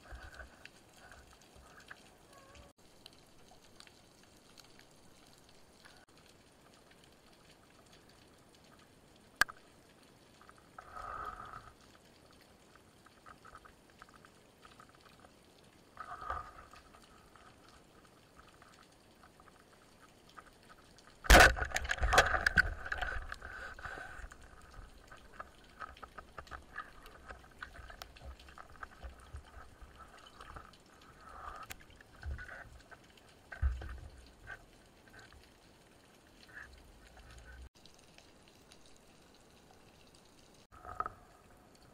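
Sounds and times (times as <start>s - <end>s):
faint underwater crackling: 0.0s - 41.9s
underwater bubbling: 0.0s - 41.9s.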